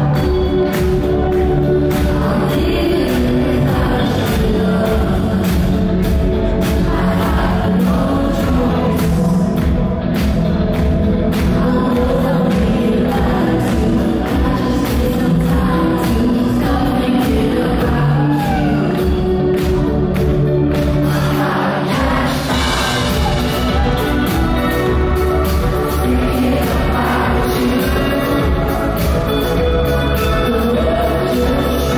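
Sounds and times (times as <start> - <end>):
woman singing: 0.0 - 9.8, 11.1 - 31.9
drums: 0.0 - 31.9
electric guitar: 0.0 - 31.9
keyboards: 0.0 - 31.9.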